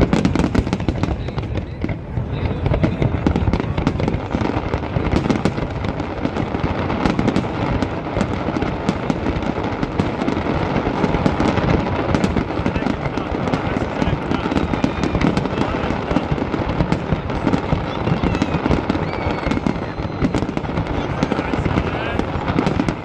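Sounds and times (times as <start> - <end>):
fireworks booming and crackling: 0.0 - 23.0.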